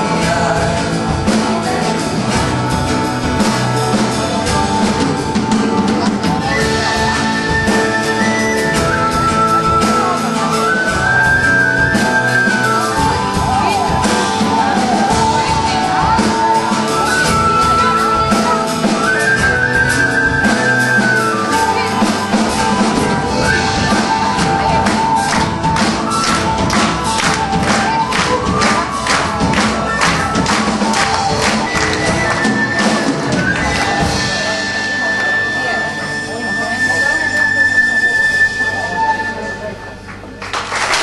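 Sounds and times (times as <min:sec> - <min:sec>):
drums beat: 0:00.0 - 0:37.3
guitar: 0:00.0 - 0:41.0
tin whistle melody: 0:06.4 - 0:40.3.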